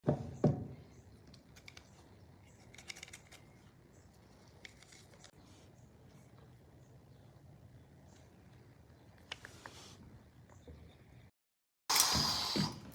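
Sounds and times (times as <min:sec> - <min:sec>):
quiet low hum: 0:00.6 - 0:11.3.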